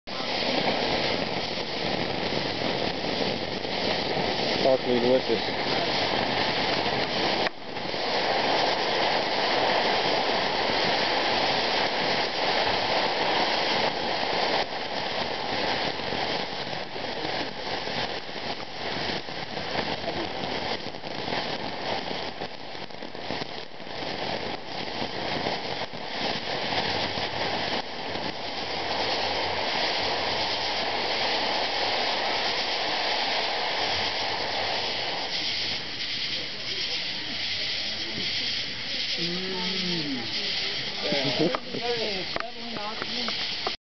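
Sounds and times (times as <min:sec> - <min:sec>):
fountain fireworks hissing and crackling: 0:00.0 - 0:43.8.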